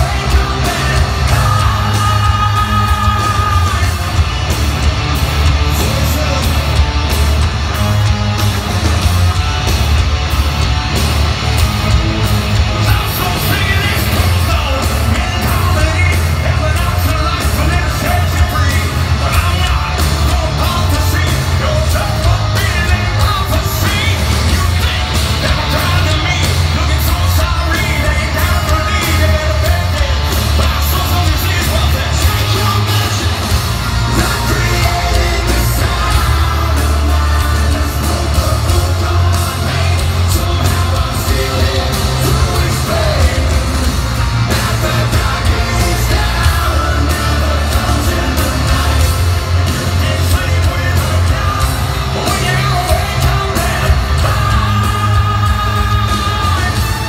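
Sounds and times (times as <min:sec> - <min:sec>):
man shout-singing: 0:00.0 - 0:04.3, 0:12.8 - 0:57.0
live hard rock band: 0:00.0 - 0:57.0.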